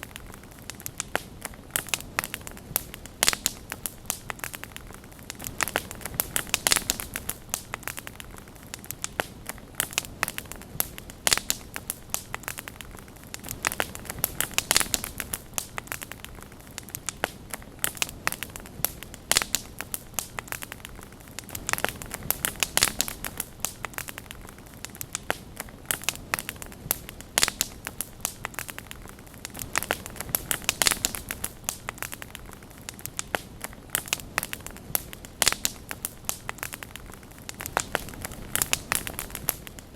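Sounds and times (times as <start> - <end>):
campfire crackling and popping: 0.0 - 39.9
flames hissing: 0.0 - 39.9.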